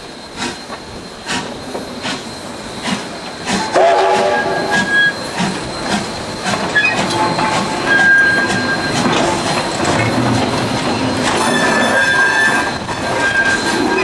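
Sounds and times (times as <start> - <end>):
steam locomotive rolling: 0.0 - 14.0
wheels squealing: 1.3 - 14.0.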